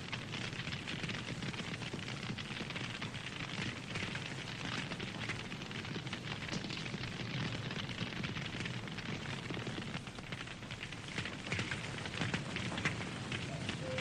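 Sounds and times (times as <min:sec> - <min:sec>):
burning wood crackling: 0:00.0 - 0:14.0
campfire flame rushing: 0:00.0 - 0:14.0.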